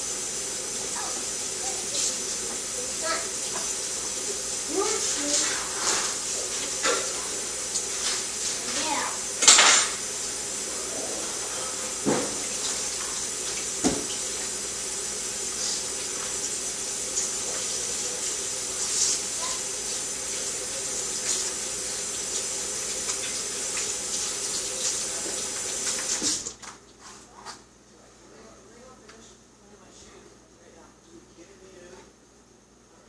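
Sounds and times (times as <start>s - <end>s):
tap water running into sink: 0.0s - 26.5s.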